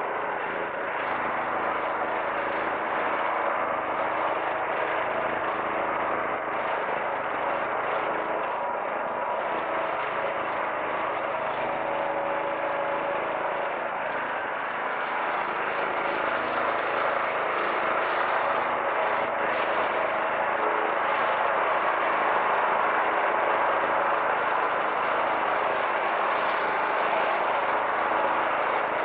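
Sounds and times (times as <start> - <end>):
jet engine whine: 0.0 - 29.0.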